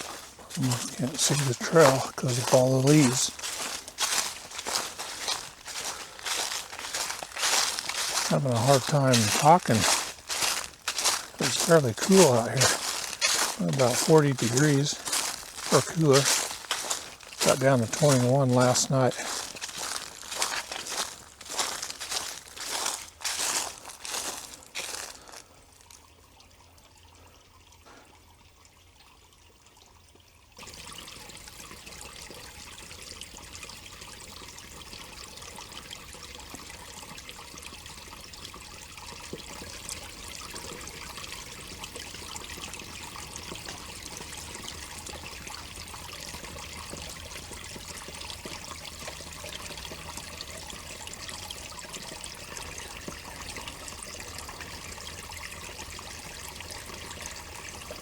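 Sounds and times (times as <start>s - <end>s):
running water: 0.0s - 27.3s, 30.6s - 58.0s.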